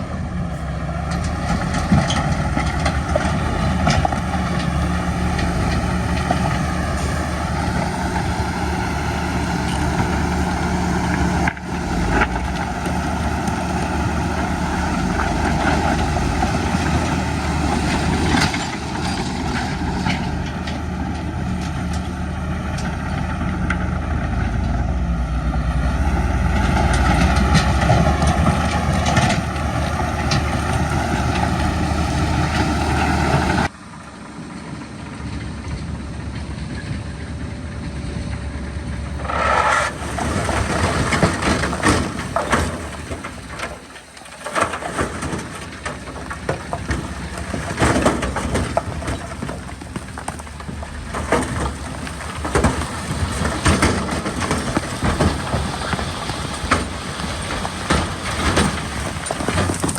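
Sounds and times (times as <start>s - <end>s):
diesel engine under load: 0.0s - 59.9s
metal clanks and knocks: 0.7s - 33.7s, 39.1s - 59.9s.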